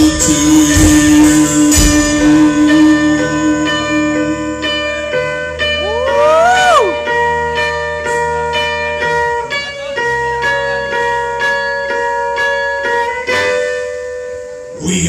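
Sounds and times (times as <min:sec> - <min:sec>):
electric guitar ringing notes: 0:00.0 - 0:15.0.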